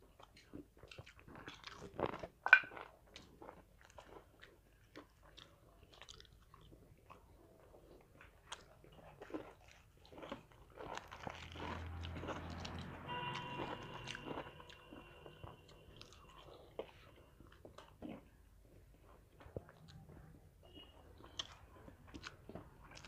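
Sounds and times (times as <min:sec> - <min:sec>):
people chewing food: 0:00.0 - 0:23.0.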